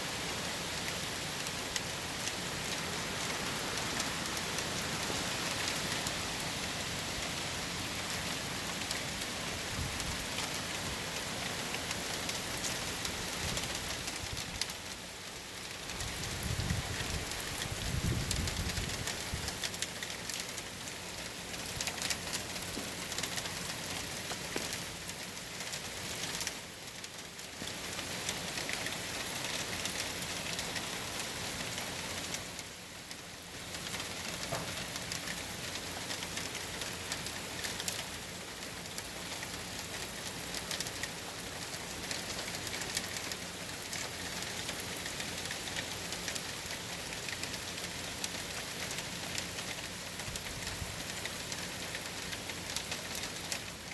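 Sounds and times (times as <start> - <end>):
heavy rain pattering: 0.0 - 53.9.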